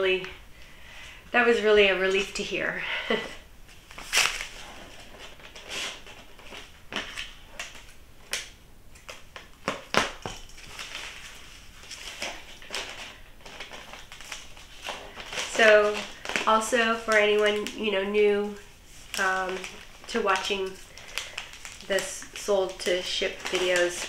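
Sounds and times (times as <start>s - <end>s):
packing paper crinkling: 2.1s - 24.0s.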